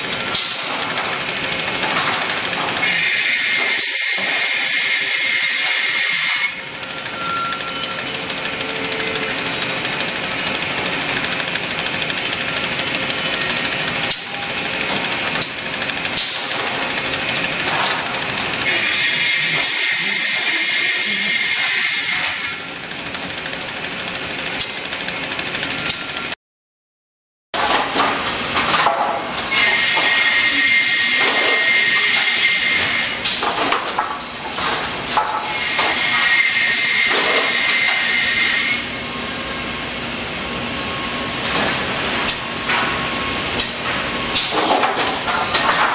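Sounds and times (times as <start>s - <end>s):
saw machine running: 0.0s - 26.4s, 29.2s - 45.9s.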